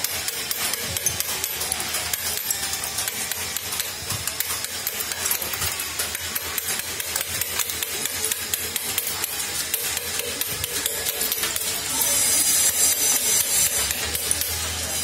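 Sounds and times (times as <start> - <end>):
hammer on chisel chipping stone: 0.0 - 14.6.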